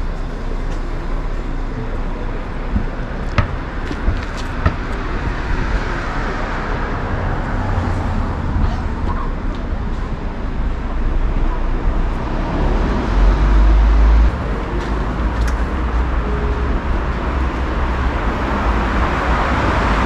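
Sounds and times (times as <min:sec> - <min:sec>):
cars passing on street: 0:00.0 - 0:20.0.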